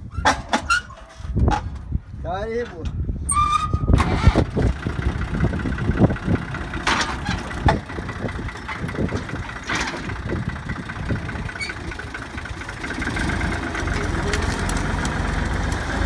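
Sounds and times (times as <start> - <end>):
tractor engine running: 0.1 - 16.0.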